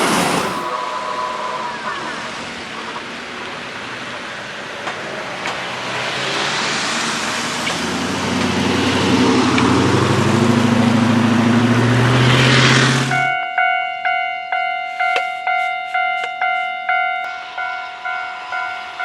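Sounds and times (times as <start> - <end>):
train motor hum: 0.0 - 19.0
train wheels rushing on rail: 0.0 - 19.0.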